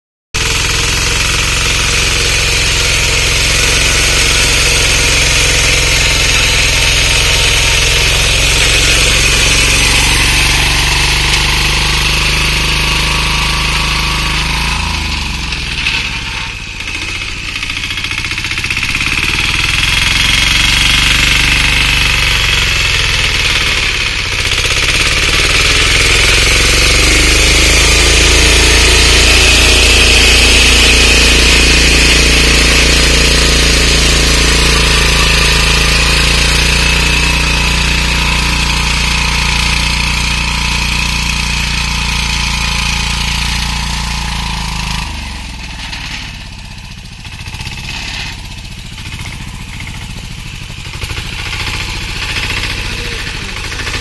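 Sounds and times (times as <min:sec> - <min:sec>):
power tiller engine running: 0:00.4 - 0:54.0
tines churning soil: 0:00.4 - 0:54.0.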